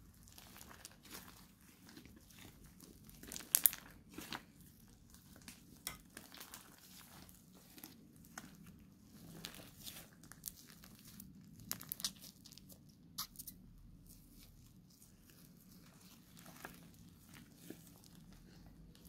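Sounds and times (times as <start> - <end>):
slime squished by hand: 0.0 - 19.0.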